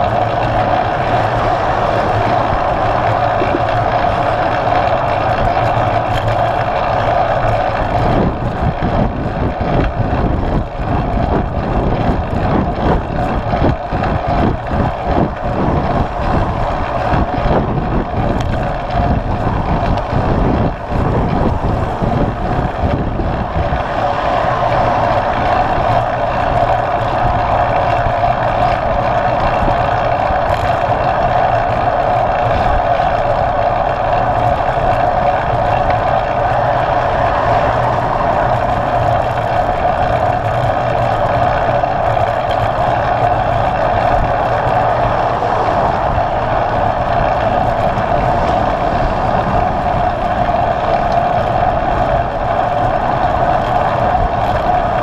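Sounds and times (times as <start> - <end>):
tyre and road noise: 0.0 - 55.0
wind buffeting microphone: 0.0 - 55.0.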